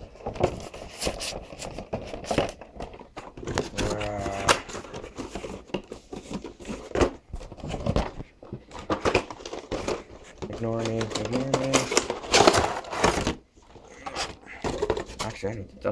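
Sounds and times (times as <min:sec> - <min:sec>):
cardboard and plastic crinkling: 0:00.0 - 0:15.6.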